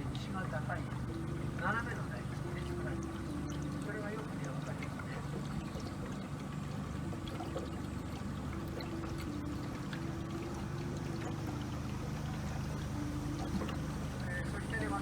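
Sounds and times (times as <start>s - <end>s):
boat motor humming: 0.0s - 15.0s
water washing along hull: 0.0s - 15.0s.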